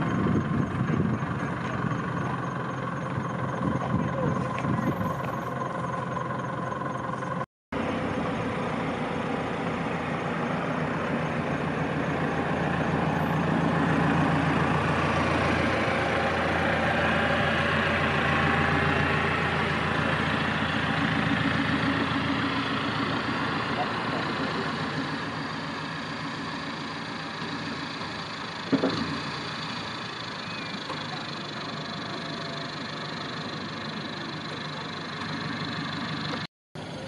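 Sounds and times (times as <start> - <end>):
vehicle engines idling: 0.0 - 37.0.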